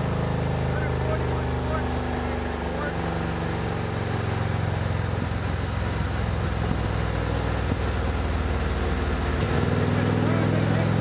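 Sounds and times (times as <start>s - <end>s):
motorcycle engine running steadily: 0.0s - 11.0s.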